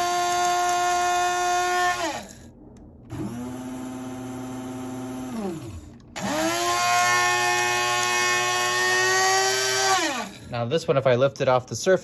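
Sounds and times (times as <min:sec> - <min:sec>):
high-pitched coffee grinder whine: 0:00.0 - 0:10.6
low-pitched coffee grinder: 0:00.0 - 0:10.6.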